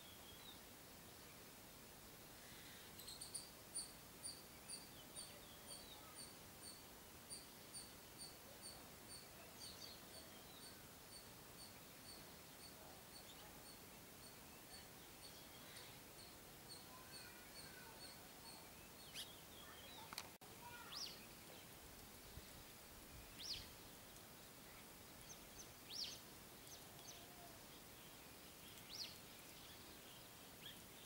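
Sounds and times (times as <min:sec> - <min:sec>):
faint bird chirps: 0:02.4 - 0:21.8, 0:23.0 - 0:31.0.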